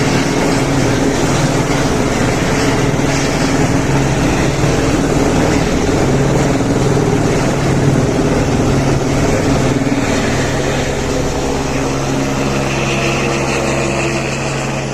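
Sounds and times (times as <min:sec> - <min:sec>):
helicopter engine and rotor drone: 0:00.0 - 0:14.9.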